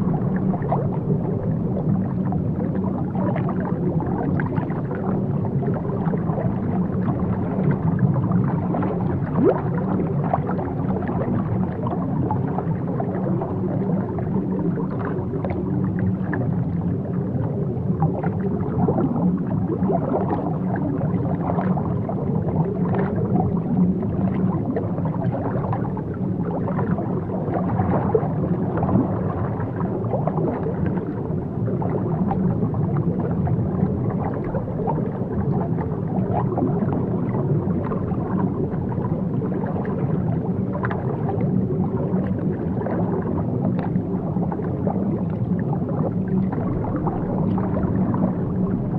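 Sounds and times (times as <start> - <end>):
underwater low rumble: 0.0 - 48.9
water bubbling and gurgling: 0.0 - 48.9.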